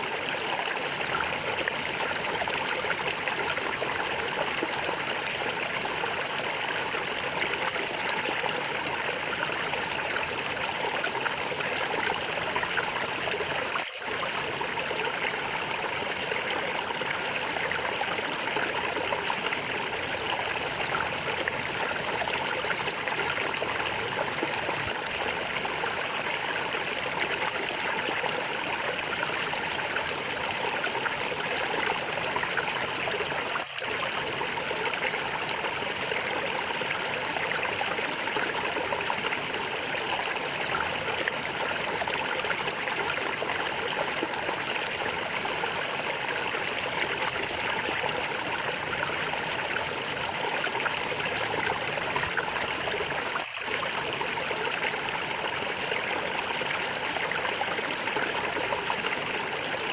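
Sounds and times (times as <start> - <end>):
stream water gurgling: 0.0 - 59.9.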